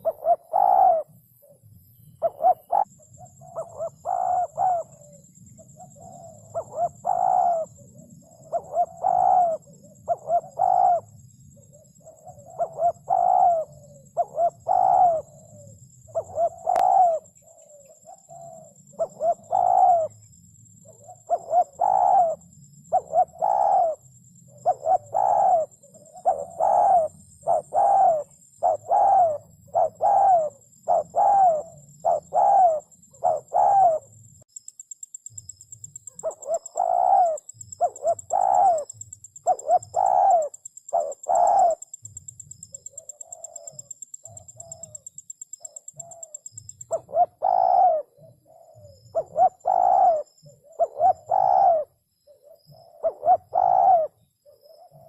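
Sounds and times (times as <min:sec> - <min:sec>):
dove cooing: 0:00.0 - 0:34.2, 0:35.8 - 0:55.0.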